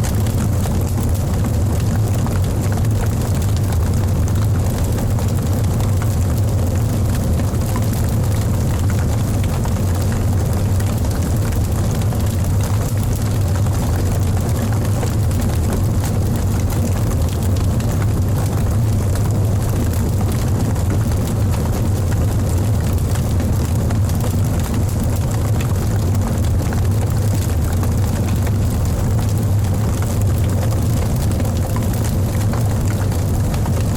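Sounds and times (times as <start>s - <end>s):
fire crackling: 0.0s - 33.9s
flames rumbling: 0.0s - 33.9s.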